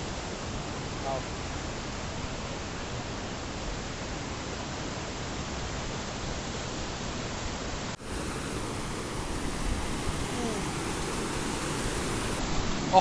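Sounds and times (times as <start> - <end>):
water rushing over rocks: 0.1 - 13.0.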